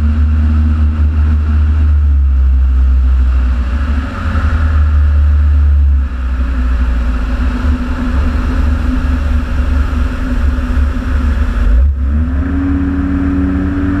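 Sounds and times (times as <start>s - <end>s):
aircraft engine and propeller droning: 0.0s - 14.0s.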